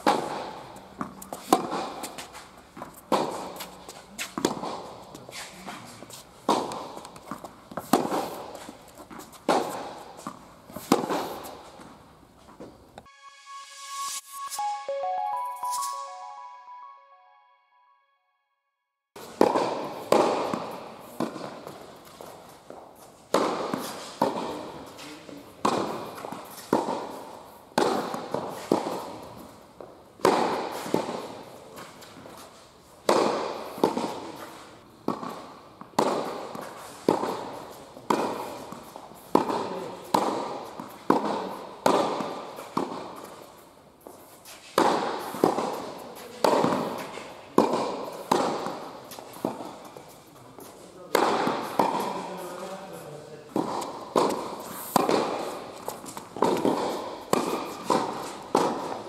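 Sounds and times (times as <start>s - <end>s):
tennis rackets hitting ball: 0.0s - 12.7s, 19.2s - 25.0s, 25.6s - 52.7s, 53.5s - 59.0s.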